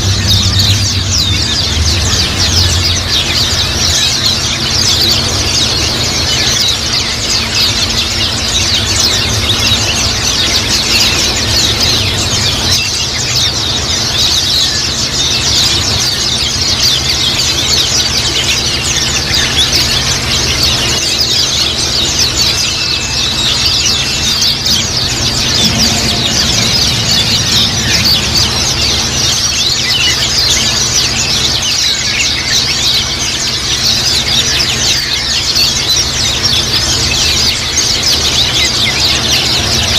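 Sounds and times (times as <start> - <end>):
flock of birds chirping: 0.0 - 39.9
steady low hum: 0.0 - 39.9.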